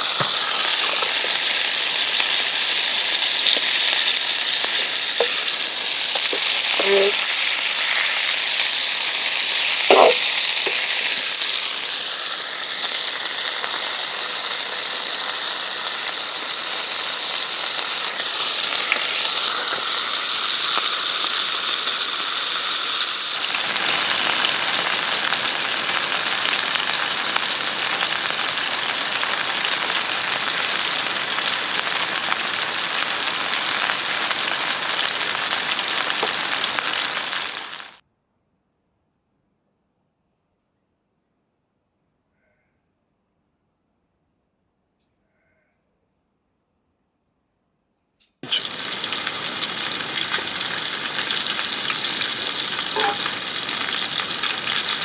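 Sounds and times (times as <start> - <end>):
food sizzling in a hot pan: 0.0 - 38.0, 48.4 - 55.0.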